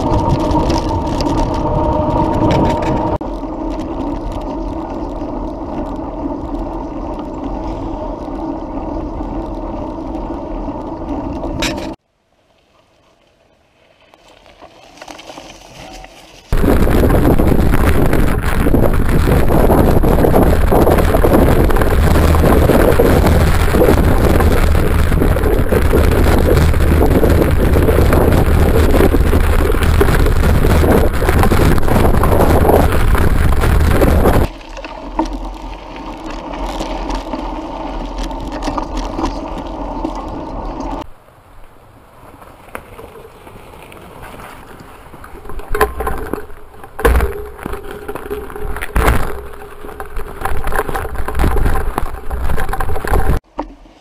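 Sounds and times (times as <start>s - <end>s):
bike rattling over dirt track: 0.0s - 12.0s, 13.7s - 41.2s, 41.8s - 54.0s
wind on microphone: 0.0s - 12.0s, 16.5s - 41.1s, 44.6s - 53.4s
bike whirring on asphalt: 0.0s - 54.0s.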